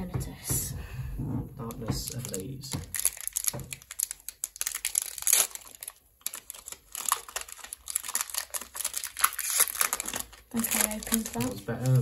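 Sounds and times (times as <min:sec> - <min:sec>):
plastic pack crinkling and tearing: 0:01.8 - 0:12.0.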